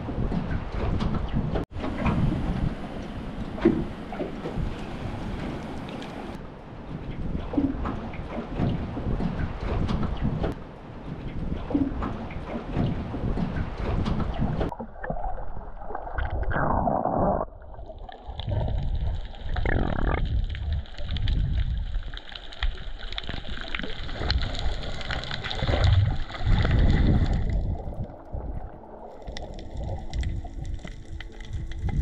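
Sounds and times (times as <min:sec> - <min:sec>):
muffled underwater water sloshing: 0:00.0 - 0:32.0.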